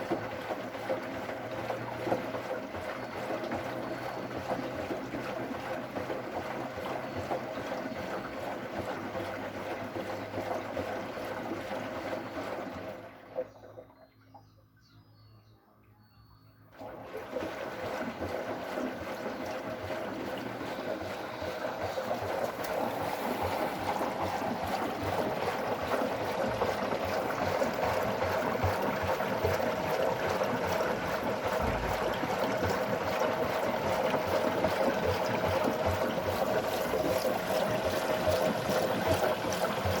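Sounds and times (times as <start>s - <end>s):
water rushing into washing machine: 0.0s - 14.1s, 16.7s - 40.0s.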